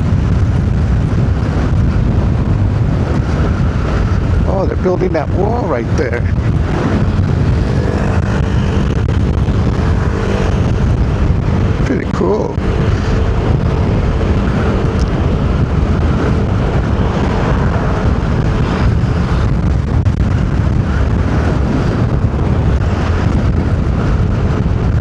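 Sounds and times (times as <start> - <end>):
car road rumble: 0.0 - 25.0
wind buffeting microphone: 0.0 - 25.0.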